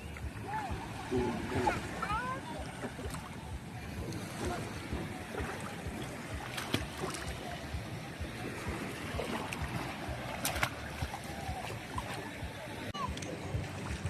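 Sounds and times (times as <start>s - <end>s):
seaside waves: 0.0s - 14.0s.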